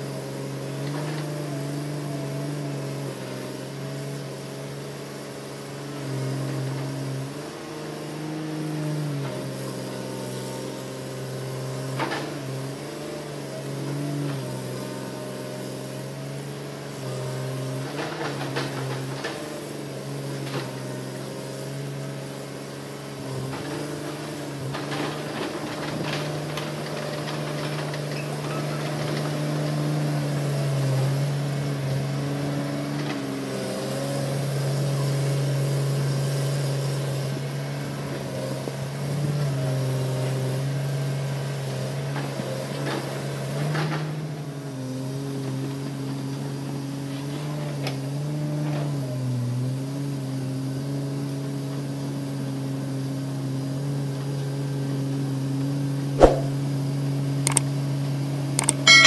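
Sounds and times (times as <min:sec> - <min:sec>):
excavator diesel engine: 0:00.0 - 0:48.7, 0:57.4 - 0:59.0.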